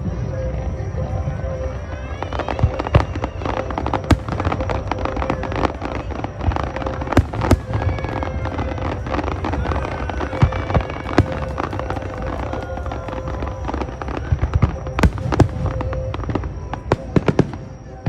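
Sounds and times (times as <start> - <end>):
fireworks bangs: 0.0 - 18.0
fireworks crackling and popping: 0.0 - 18.0.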